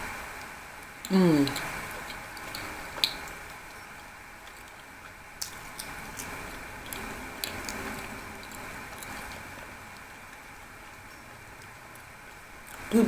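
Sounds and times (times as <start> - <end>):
wet chewing sounds: 1.4 - 12.9.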